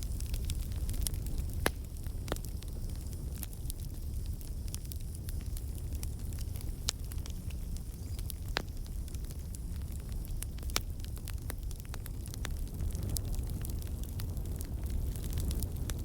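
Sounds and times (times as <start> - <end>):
fire crackling and popping: 0.0 - 16.0
wood fire burning: 0.0 - 16.0.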